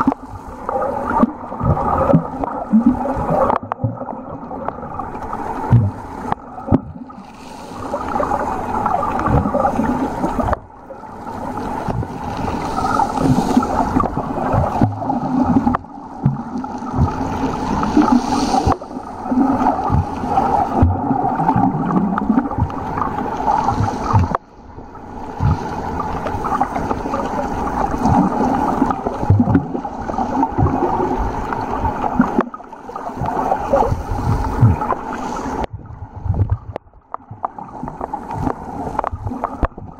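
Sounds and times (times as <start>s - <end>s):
muffled underwater gurgling: 0.0s - 39.9s.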